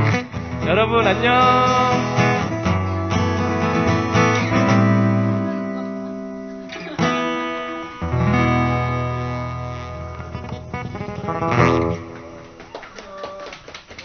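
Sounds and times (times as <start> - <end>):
guitar chords ringing: 0.0 - 12.7.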